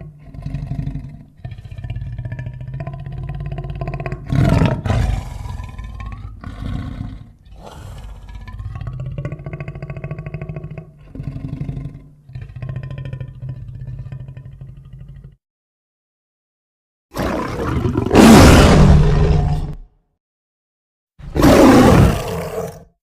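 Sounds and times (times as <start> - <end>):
tiger growling: 0.0 - 15.4, 17.2 - 19.8, 21.2 - 22.9.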